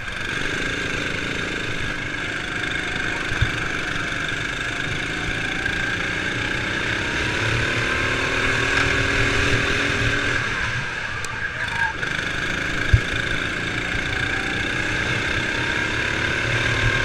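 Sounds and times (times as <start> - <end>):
kart engine accelerating: 0.0 - 17.0.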